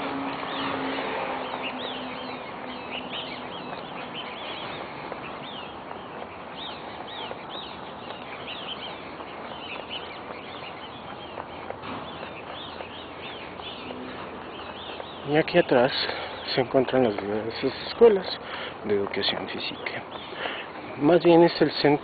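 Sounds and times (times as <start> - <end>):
birds chirping: 0.0 - 22.0
steady rushing noise: 0.0 - 22.0.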